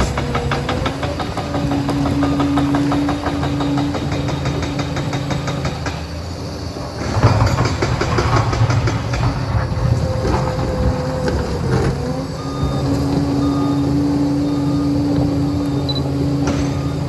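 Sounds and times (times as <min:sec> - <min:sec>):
diesel engine running: 0:00.0 - 0:17.0
steel tracks clanking: 0:00.0 - 0:17.0.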